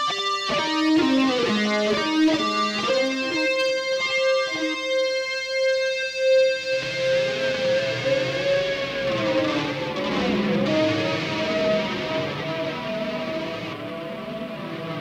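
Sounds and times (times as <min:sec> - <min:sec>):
electric guitar notes: 0:00.0 - 0:15.0.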